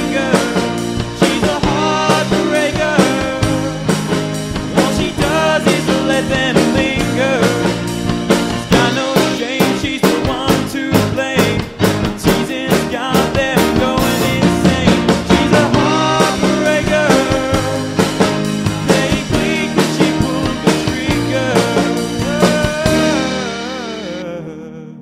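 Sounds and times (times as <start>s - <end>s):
drum kit beat: 0.0s - 24.3s
rock band playing: 0.0s - 24.5s.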